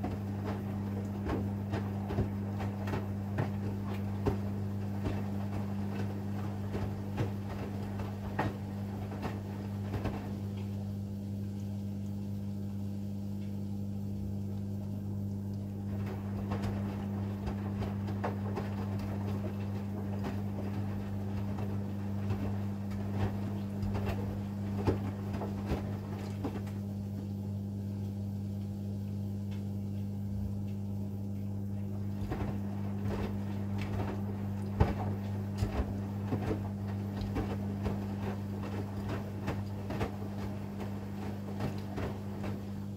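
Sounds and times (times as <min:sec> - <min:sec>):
steady low hum: 0:00.0 - 0:42.9
washing machine drum swishing: 0:00.0 - 0:42.9.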